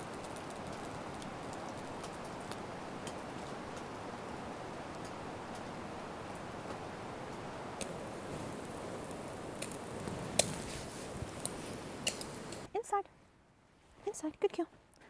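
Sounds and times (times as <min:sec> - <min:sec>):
campfire crackling: 0:00.0 - 0:12.7
sharp pops of fire: 0:00.0 - 0:12.7
steady fire hiss: 0:00.0 - 0:12.7.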